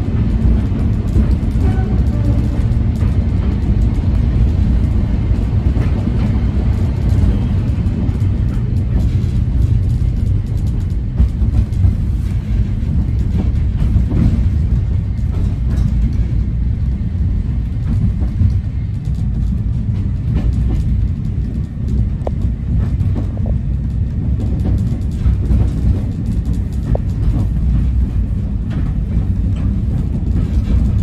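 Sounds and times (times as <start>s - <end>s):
wheels rumbling on rail: 0.0s - 31.0s.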